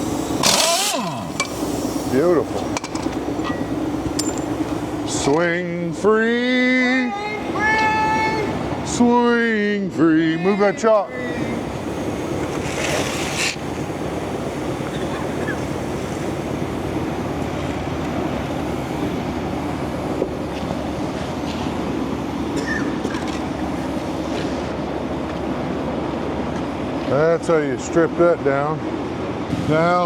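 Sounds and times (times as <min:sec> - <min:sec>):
heavy equipment engine running: 0:00.0 - 0:30.0.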